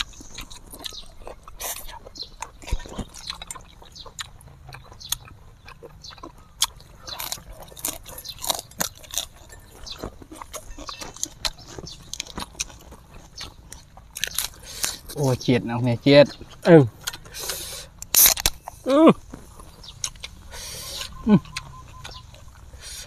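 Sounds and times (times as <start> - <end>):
wet chewing and lip smacks: 0.0 - 15.4, 16.2 - 23.0.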